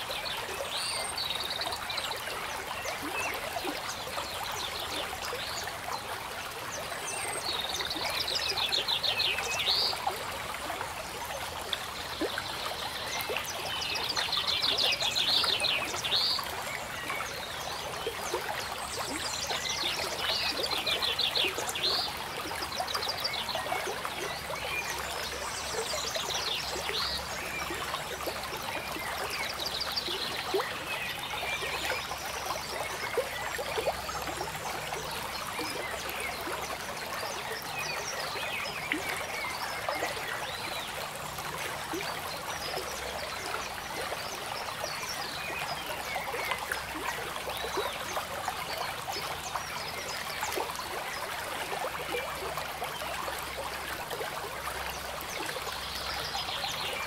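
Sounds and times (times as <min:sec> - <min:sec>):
trickling water: 0:00.0 - 0:57.0.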